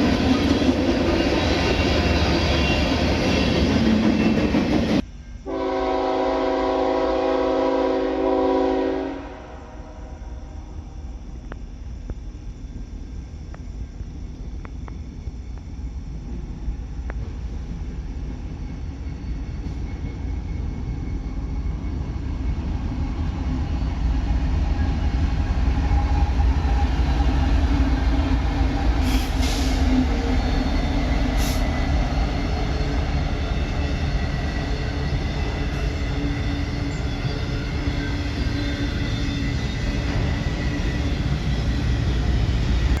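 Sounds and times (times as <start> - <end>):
train passing: 0.0 - 43.0.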